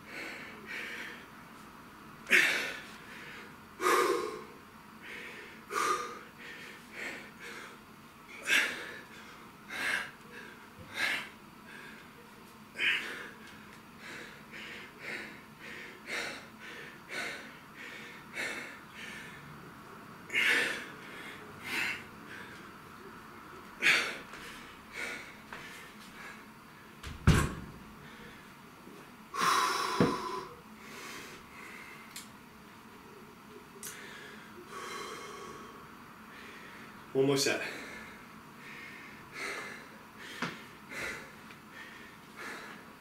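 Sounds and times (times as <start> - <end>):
man breathing hard: 0.0 - 1.4, 2.2 - 19.5, 20.3 - 22.7, 23.8 - 26.9, 28.0 - 28.6, 29.3 - 32.1, 33.8 - 37.0, 37.6 - 43.0.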